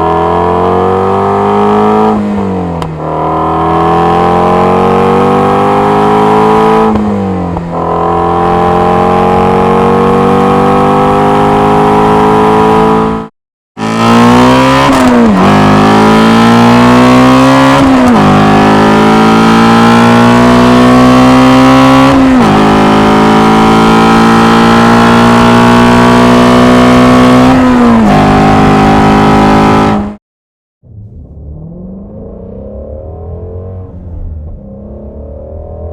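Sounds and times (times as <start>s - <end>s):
car engine accelerating hard: 0.0s - 30.2s, 30.8s - 35.9s.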